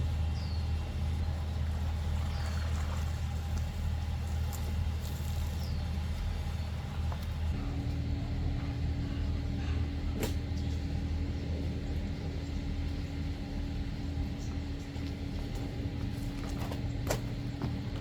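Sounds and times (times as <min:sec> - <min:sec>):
engine running: 0:00.0 - 0:18.0
steady hum: 0:00.0 - 0:18.0.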